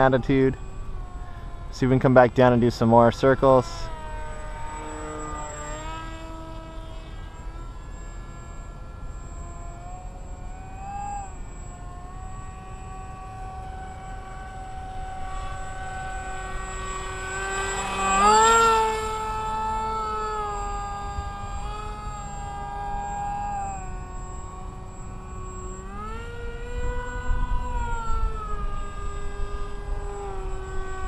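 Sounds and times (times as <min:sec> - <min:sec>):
model plane electric motor whine: 0:00.0 - 0:31.0.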